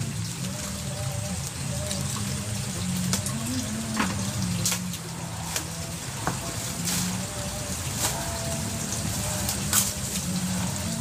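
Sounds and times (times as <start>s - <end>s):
water splashing into pond: 0.0s - 11.0s.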